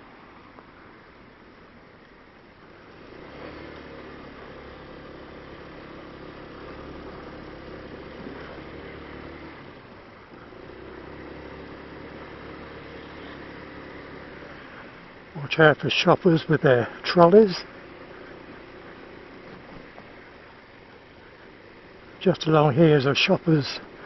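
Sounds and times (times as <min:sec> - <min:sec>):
motorcycle engine running: 0:02.6 - 0:24.0.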